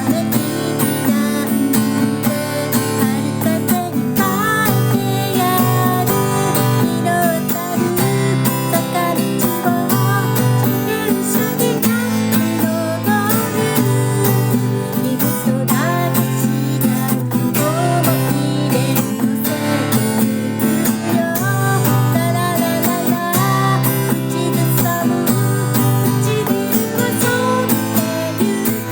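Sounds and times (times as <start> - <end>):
acoustic guitar strumming: 0.0 - 28.9
person singing: 0.0 - 28.9.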